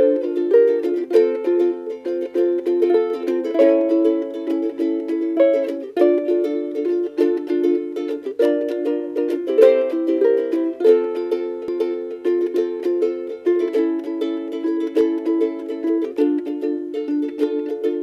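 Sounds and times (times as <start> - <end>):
plucked string instrumental music: 0.0 - 18.0.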